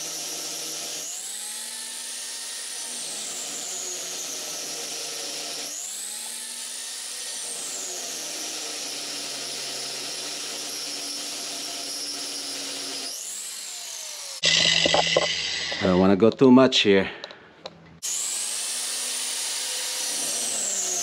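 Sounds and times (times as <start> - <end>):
angle grinder grinding metal: 0.0 - 16.6, 18.0 - 21.0.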